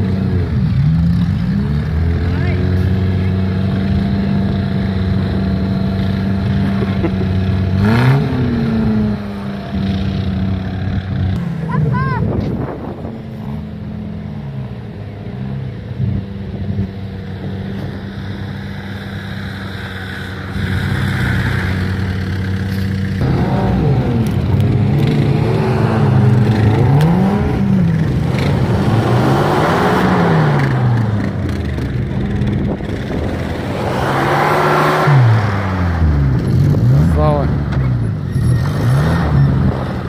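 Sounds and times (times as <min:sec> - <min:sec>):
off-road engine revving: 0:00.0 - 0:40.0.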